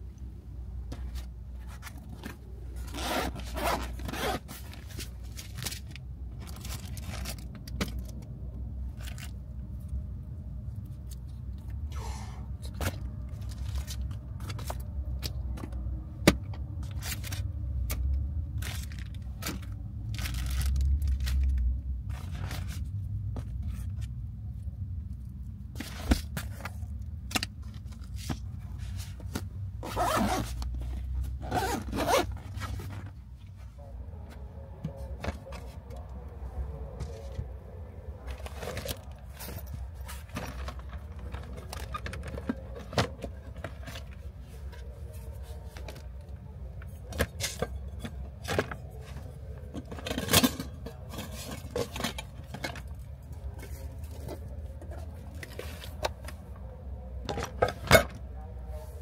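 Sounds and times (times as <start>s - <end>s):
low steady rumble: 0.0s - 59.0s
contents shuffling and rustling: 0.9s - 10.0s, 16.7s - 24.2s, 25.6s - 59.0s.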